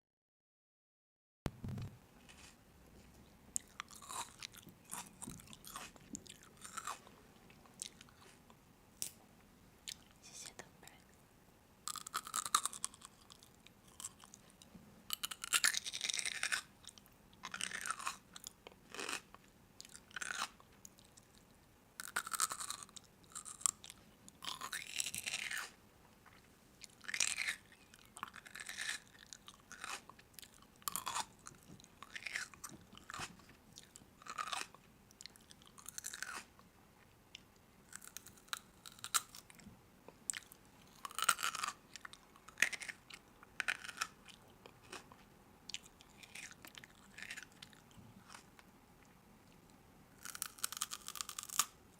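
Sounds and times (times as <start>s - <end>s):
crunchy food being chewed: 1.6s - 9.2s, 9.8s - 11.0s, 11.9s - 36.7s, 37.3s - 51.8s.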